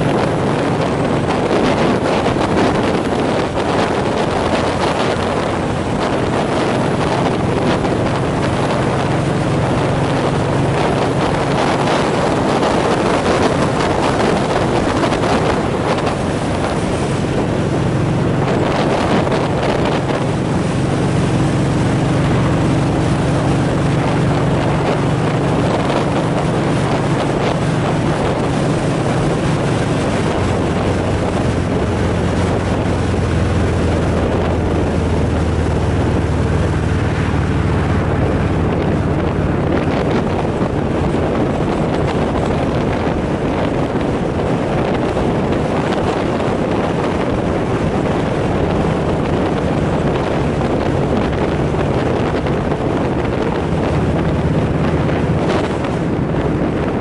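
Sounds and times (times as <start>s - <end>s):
engine drone: 0.0s - 57.0s
road noise: 0.0s - 57.0s
wind rushing over microphone: 0.0s - 57.0s.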